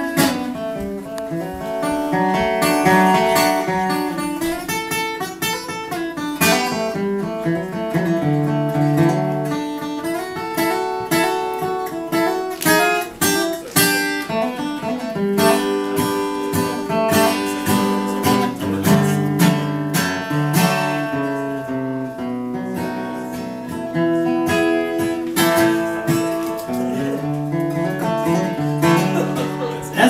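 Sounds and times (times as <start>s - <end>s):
acoustic guitar waltz: 0.0s - 30.0s.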